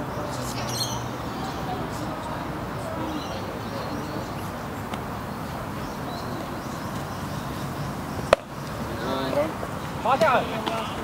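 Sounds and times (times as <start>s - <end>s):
faint distant chatter: 0.0s - 11.0s.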